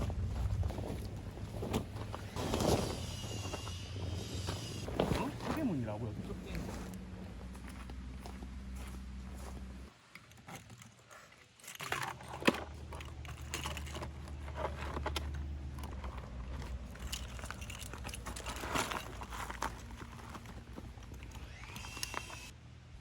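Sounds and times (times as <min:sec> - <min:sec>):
rustling of objects handled: 0:00.1 - 0:22.5.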